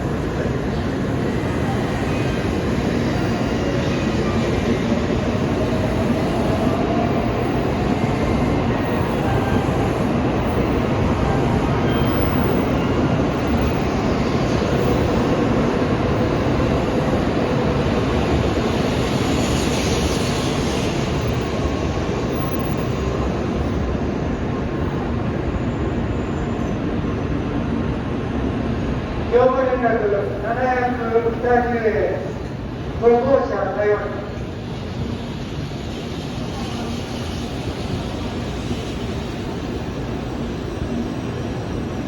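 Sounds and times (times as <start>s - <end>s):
train rushing past: 0.0s - 42.0s.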